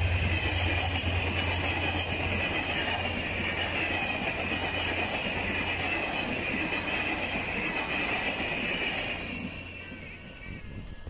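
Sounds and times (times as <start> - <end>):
train wheels rolling on rail: 0.0 - 11.0.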